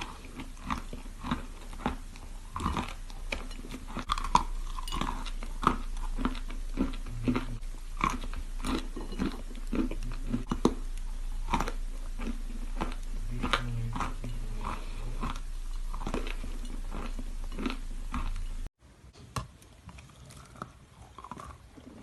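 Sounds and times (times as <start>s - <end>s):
chalk crunching while chewed: 0.0s - 18.5s.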